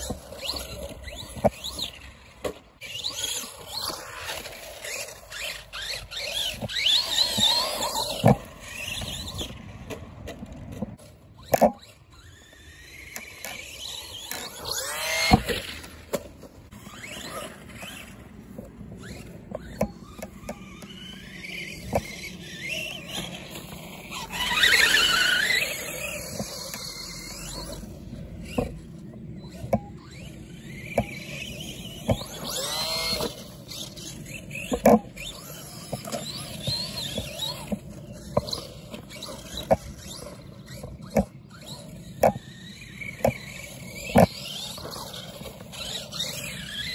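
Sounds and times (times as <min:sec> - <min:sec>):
electric motor whining: 0:00.0 - 0:09.8, 0:10.7 - 0:46.9.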